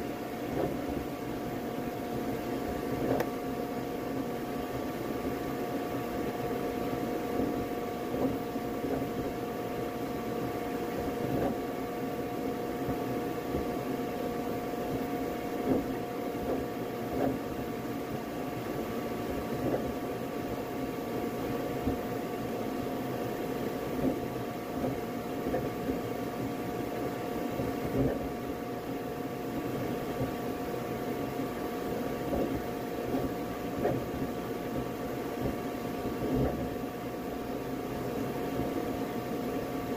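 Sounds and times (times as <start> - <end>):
printer whirring: 0.0 - 39.9.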